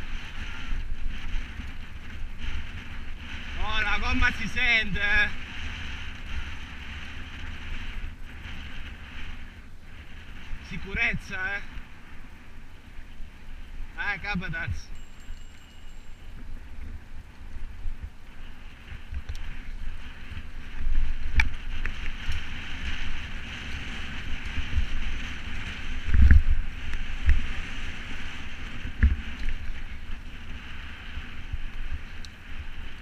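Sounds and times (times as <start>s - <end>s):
wind rushing on microphone: 0.0s - 33.0s.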